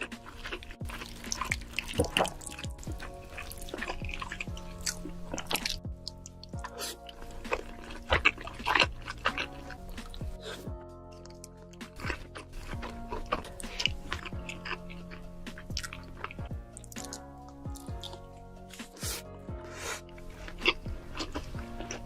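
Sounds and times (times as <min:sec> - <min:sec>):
background music: 0:00.0 - 0:22.0
wet chewing and slurping: 0:00.0 - 0:22.0.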